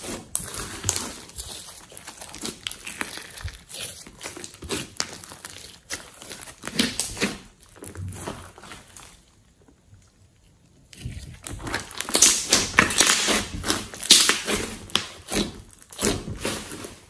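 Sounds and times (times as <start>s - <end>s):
sticky slime crackles and pops: 0.0s - 10.1s, 10.9s - 17.0s.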